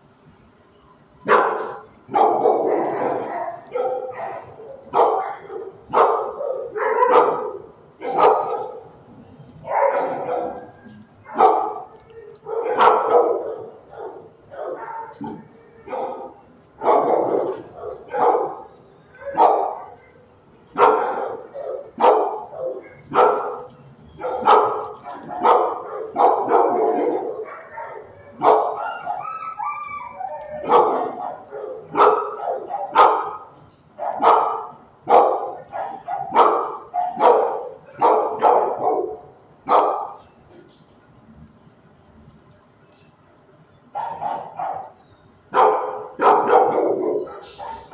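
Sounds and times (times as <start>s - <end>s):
dogs barking: 1.2s - 40.4s, 43.9s - 47.9s.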